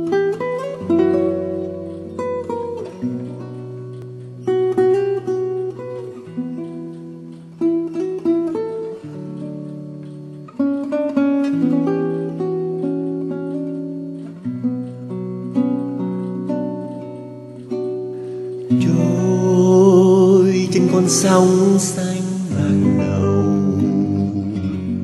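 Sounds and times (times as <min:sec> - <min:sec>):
fingerpicked classical guitar: 0:00.0 - 0:25.0.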